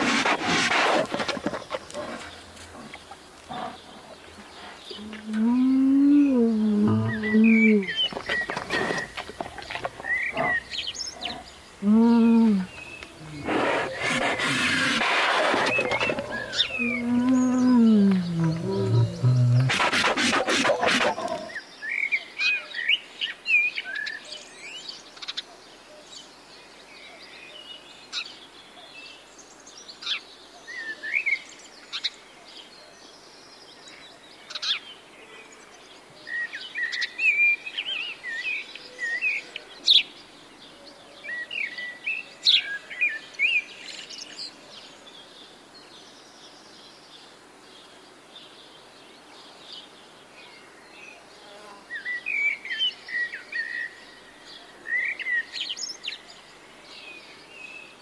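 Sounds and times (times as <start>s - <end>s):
faint background hiss: 0.0s - 58.0s
songbirds chirping: 0.0s - 58.0s.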